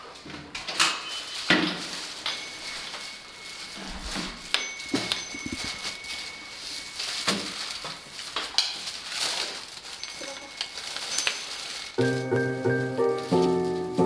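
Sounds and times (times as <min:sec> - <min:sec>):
harness rustling: 0:01.2 - 0:14.0.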